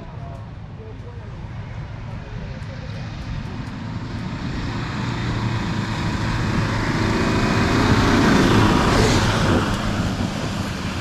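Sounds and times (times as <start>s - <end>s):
off-road engine running hard: 0.0s - 11.0s.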